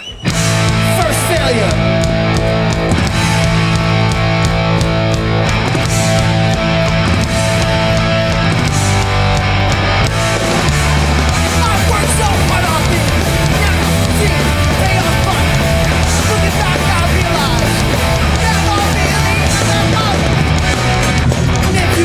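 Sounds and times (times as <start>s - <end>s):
punk band playing live: 0.0s - 22.0s
distorted electric guitar: 0.2s - 22.0s
heavy bass: 0.3s - 22.0s.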